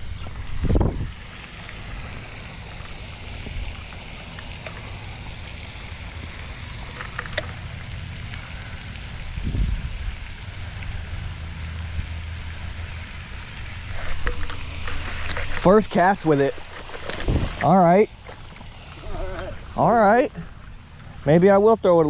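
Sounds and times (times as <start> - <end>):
rain hiss: 0.0 - 22.0
splashing pond fountain: 0.0 - 22.0.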